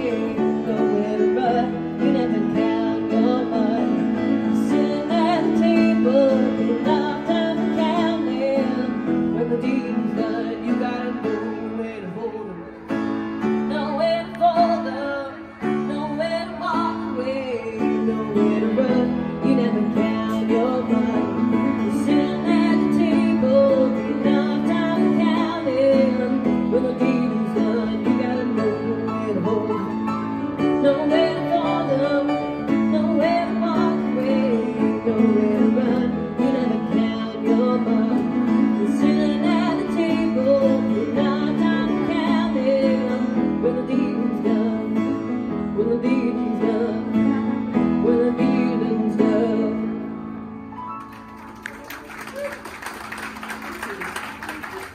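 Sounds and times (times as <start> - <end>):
woman singing: 0.0 - 50.4
grand piano playing: 0.0 - 52.0.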